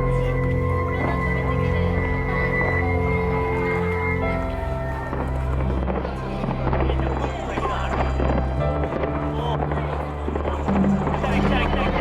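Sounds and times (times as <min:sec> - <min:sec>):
music with long held notes: 0:00.0 - 0:12.0.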